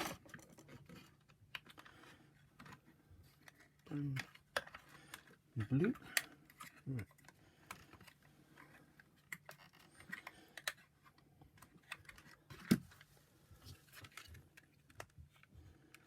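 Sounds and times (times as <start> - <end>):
plastic parts clicking and tapping: 0.0 - 13.1, 13.9 - 16.0.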